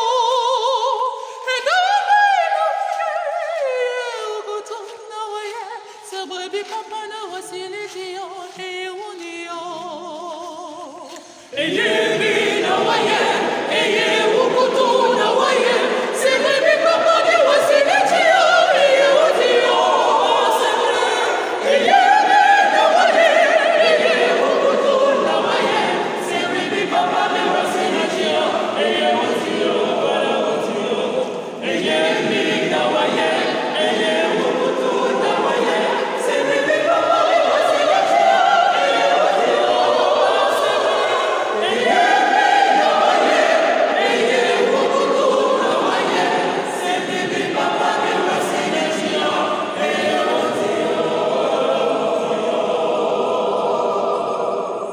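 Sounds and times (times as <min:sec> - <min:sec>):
mixed choir singing: 0:00.0 - 0:54.9.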